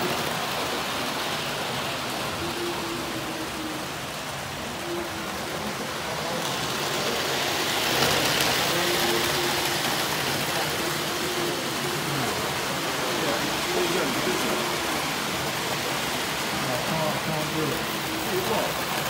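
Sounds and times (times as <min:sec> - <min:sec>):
model train rumbling on track: 0:00.0 - 0:19.0.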